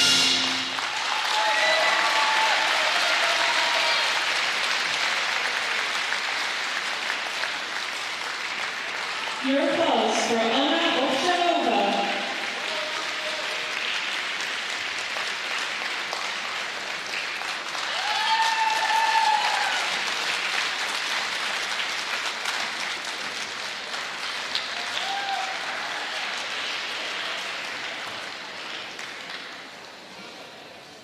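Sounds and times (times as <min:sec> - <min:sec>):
crowd applauding: 0:00.0 - 0:30.2.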